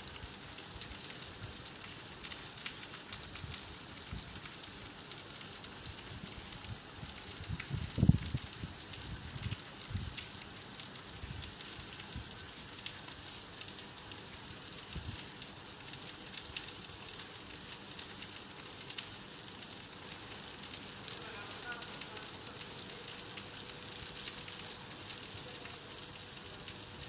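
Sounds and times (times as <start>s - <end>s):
rain hiss with drop ticks: 0.0s - 27.0s.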